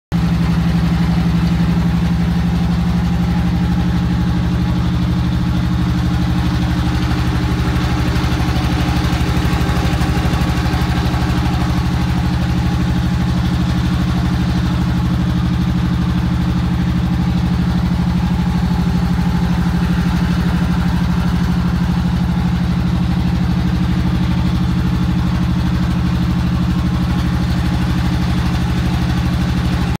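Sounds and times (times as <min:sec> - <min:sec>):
engine running steadily: 0:00.1 - 0:30.0.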